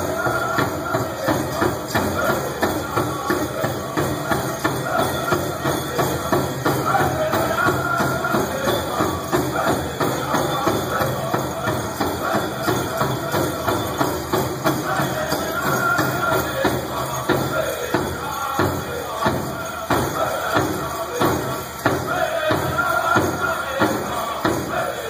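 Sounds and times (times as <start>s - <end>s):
group singing: 0.0s - 25.0s.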